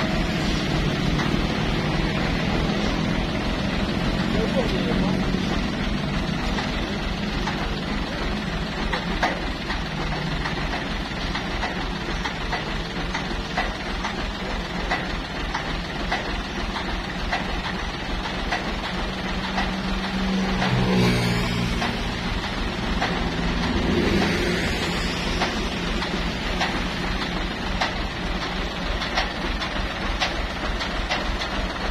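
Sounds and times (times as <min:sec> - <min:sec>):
road noise: 0:00.0 - 0:31.9
truck engine running: 0:00.0 - 0:31.9.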